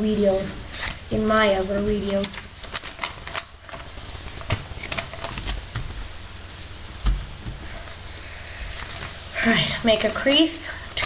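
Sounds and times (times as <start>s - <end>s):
paper rustling and crinkling: 0.7s - 1.0s, 1.7s - 11.0s.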